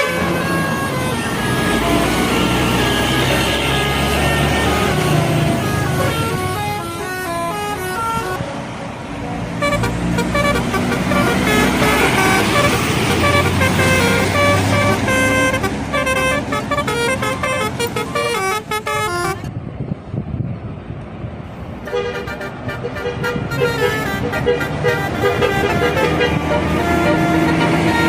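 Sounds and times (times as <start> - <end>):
multi-tone bus horn tune: 0.0 - 8.5, 9.5 - 19.5, 21.8 - 28.0
bus engine: 0.0 - 28.0.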